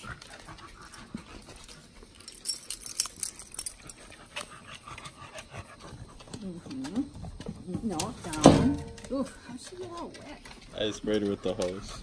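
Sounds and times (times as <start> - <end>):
dogs moving about: 0.0 - 12.0
sharp clicks and jingles: 0.0 - 12.0.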